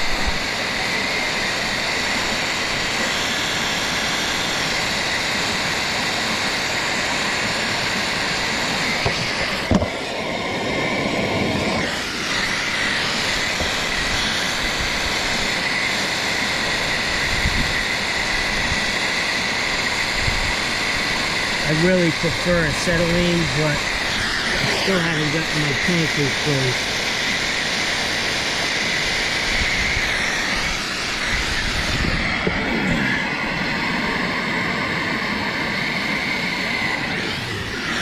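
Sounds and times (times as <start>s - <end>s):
gas torch roaring hiss: 0.0s - 38.0s.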